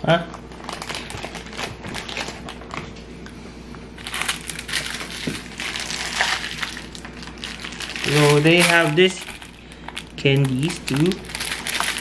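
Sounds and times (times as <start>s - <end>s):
plastic bag crinkling: 0.4s - 3.0s, 4.0s - 12.0s.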